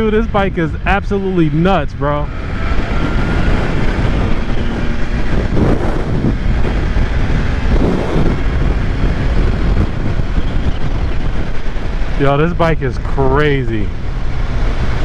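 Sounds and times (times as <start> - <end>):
motorcycle engine running: 0.0 - 15.0
wind rushing on microphone: 0.0 - 15.0.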